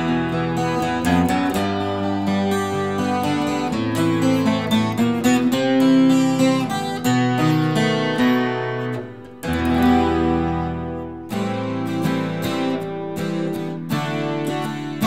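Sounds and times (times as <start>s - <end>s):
acoustic guitar picked riff: 0.0s - 15.0s
guitar chord ringing: 0.0s - 15.0s.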